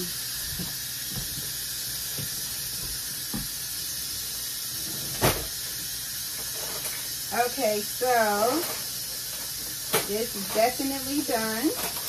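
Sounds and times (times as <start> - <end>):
food sizzling on stove: 0.0 - 12.0.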